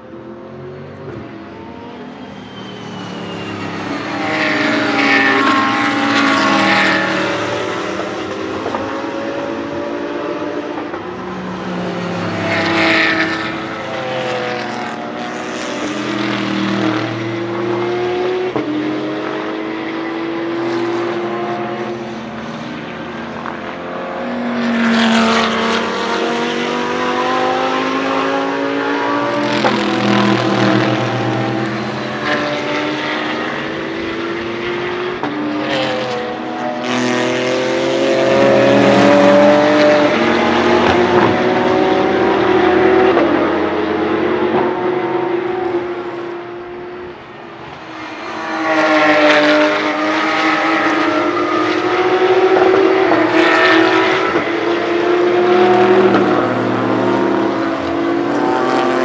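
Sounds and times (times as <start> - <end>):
race car engines passing: 0.0 - 59.0.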